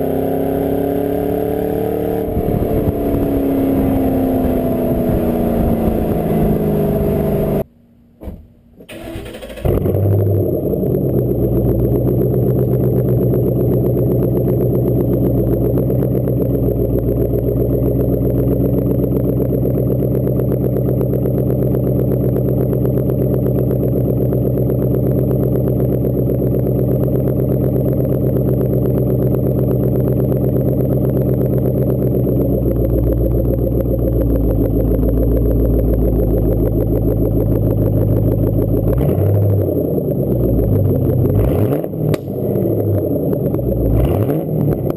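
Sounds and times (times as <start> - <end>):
car engine idling: 0.0 - 7.7, 8.8 - 44.9.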